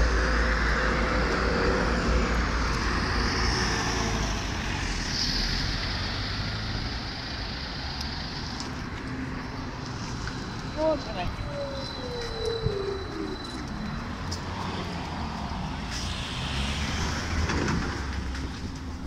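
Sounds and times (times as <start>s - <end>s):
vehicles passing with low rumble: 0.0s - 19.0s.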